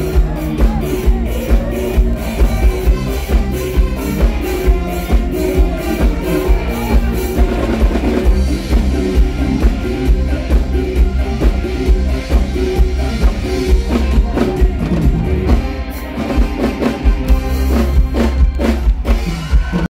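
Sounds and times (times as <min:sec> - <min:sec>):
live band music: 0:00.0 - 0:19.9
strong drum beat: 0:00.0 - 0:19.9.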